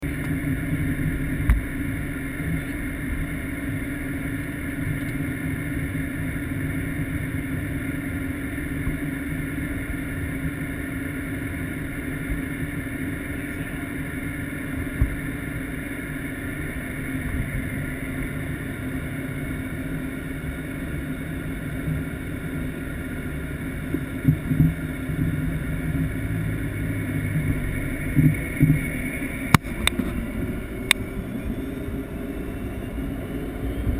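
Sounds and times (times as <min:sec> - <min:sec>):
aircraft engine running: 0:00.0 - 0:33.9.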